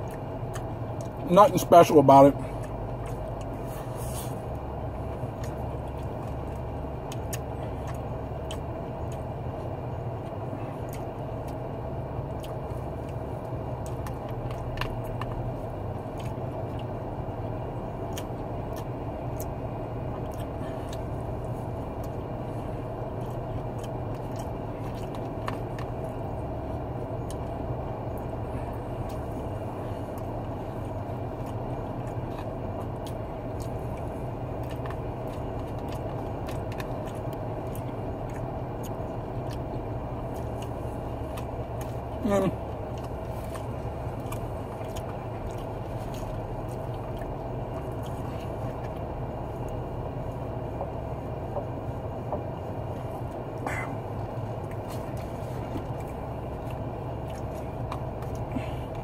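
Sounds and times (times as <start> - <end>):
car engine idling: 0.0 - 59.0
chewing: 0.0 - 59.0.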